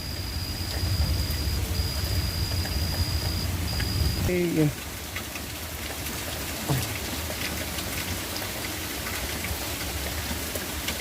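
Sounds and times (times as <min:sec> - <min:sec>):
light rain falling: 0:00.0 - 0:11.0.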